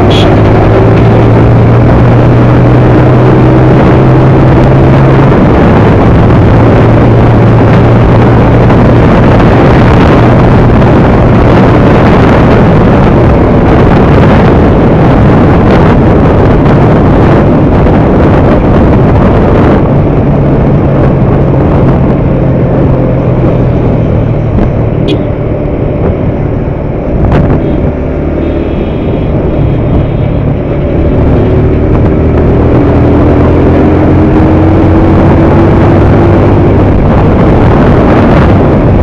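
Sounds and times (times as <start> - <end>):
motorcycle engine hum: 0.0 - 39.0
wind rush on microphone: 0.0 - 39.0.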